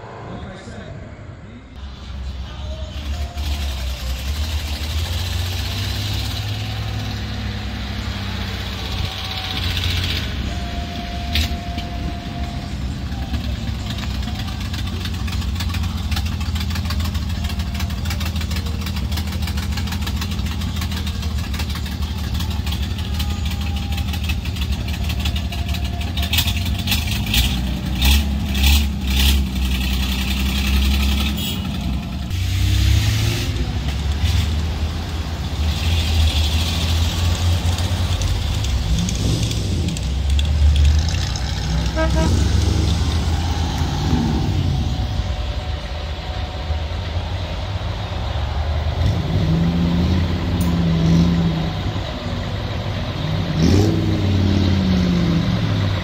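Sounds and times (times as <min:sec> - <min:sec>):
truck engines rumbling: 0:00.0 - 0:56.0.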